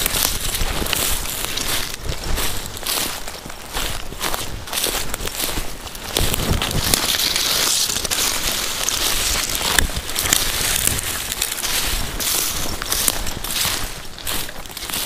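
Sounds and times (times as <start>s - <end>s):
footsteps crunching dry leaves: 0.0s - 15.0s
rustling: 0.0s - 15.0s.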